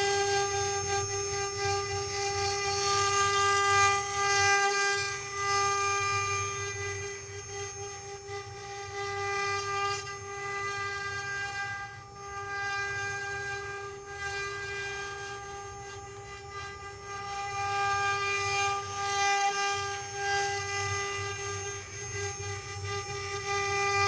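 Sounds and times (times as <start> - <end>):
rasping wood cutting noise: 0.0 - 24.0
router spindles whining: 0.0 - 24.0.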